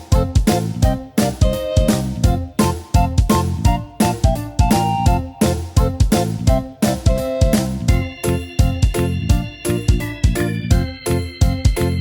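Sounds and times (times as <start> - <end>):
upbeat keyboard music: 0.0 - 12.0.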